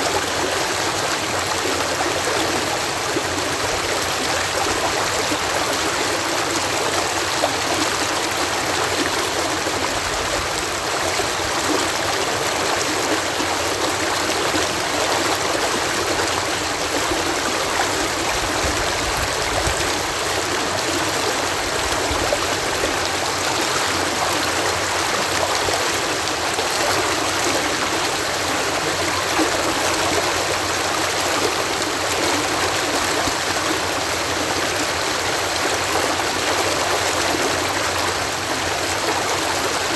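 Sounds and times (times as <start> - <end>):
water rushing through canal lock: 0.0 - 39.9.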